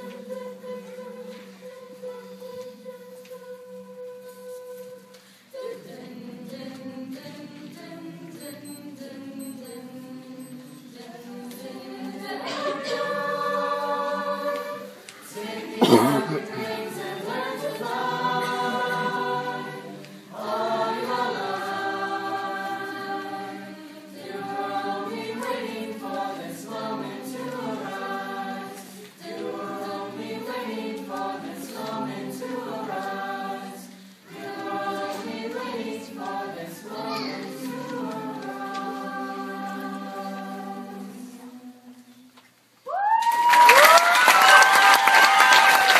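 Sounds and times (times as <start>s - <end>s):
choir singing held chords: 0.0s - 42.3s.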